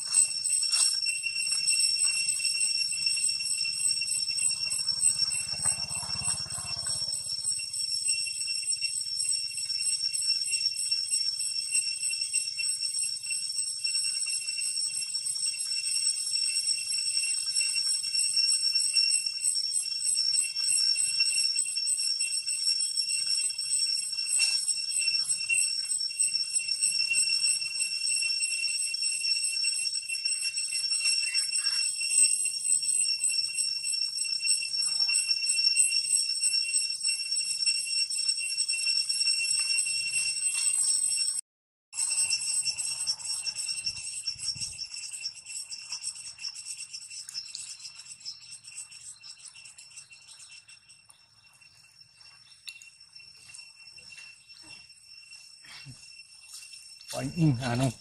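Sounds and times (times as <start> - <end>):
insect chorus drone: 0.0 - 38.4, 42.0 - 58.0.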